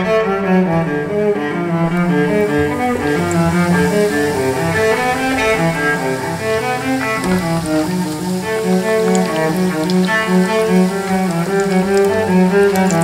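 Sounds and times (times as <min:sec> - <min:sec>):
cello and bowed strings music: 0:00.0 - 0:13.0.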